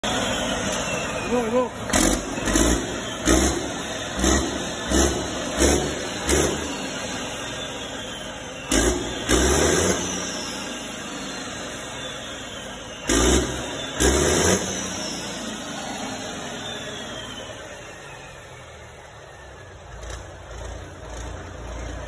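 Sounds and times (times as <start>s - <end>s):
diesel generator engine surging: 0.0s - 22.0s.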